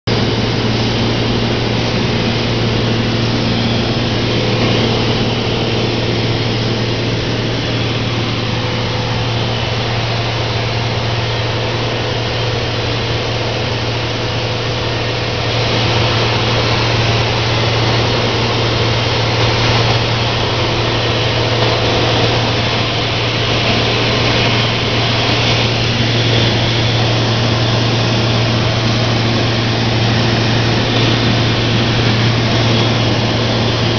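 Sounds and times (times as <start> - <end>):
light aircraft engine drone: 0.1 - 33.9.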